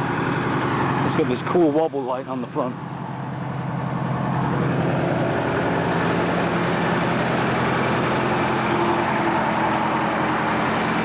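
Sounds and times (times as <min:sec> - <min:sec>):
fire truck diesel engine idling: 0:00.0 - 0:11.0.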